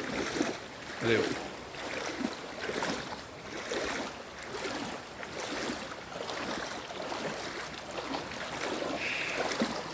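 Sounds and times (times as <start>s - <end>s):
stream water rushing: 0.0s - 9.9s.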